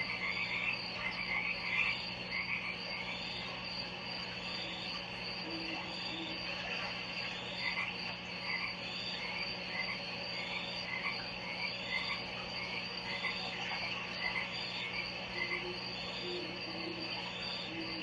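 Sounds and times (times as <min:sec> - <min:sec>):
frog calls: 0:00.0 - 0:18.0.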